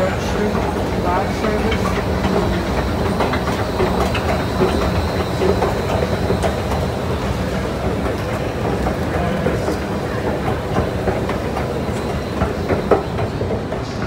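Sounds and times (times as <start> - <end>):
escalator machinery running: 0.0 - 14.0
faint indistinct voices: 0.0 - 14.0
rattling clatter of moving steps: 0.0 - 14.0.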